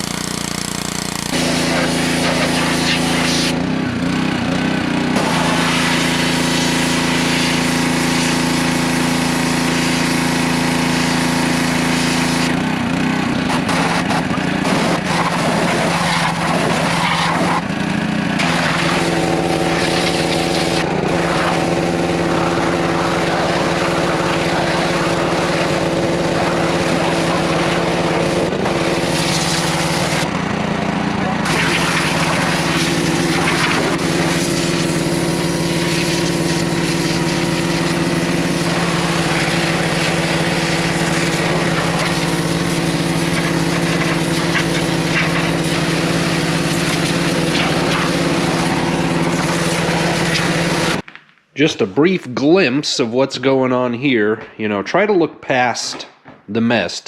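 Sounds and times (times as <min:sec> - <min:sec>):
small gasoline engine running: 0:00.0 - 0:51.0.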